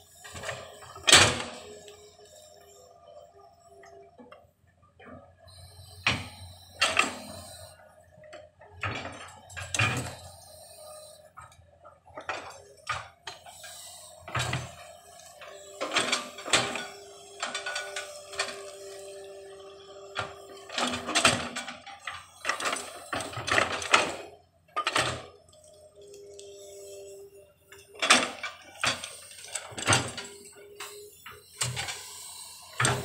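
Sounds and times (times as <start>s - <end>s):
excavator metallic clanks: 0.0s - 33.0s
excavator whine: 0.0s - 33.0s.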